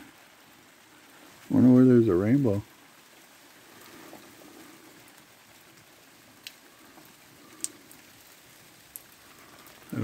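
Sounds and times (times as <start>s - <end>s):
light rain pattering: 0.0s - 10.0s
sharp raindrop ticks: 0.0s - 10.0s.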